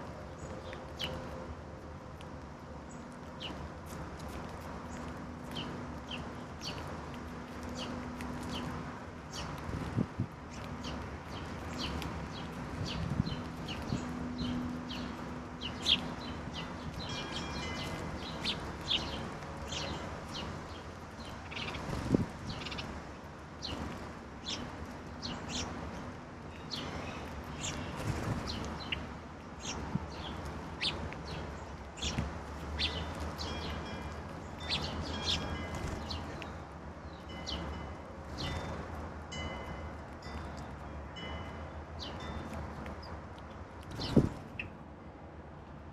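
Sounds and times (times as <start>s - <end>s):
songbirds chirping: 0.0s - 45.8s.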